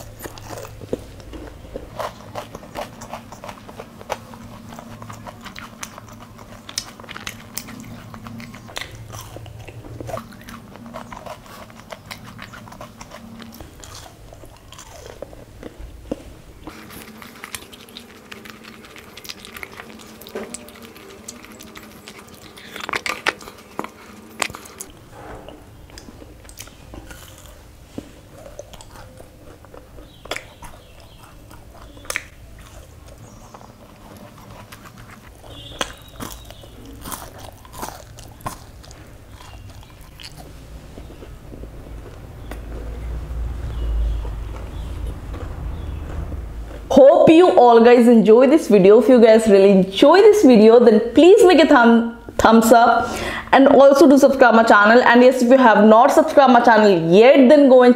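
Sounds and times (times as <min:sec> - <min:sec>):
crunchy chewing: 0:00.0 - 0:47.4.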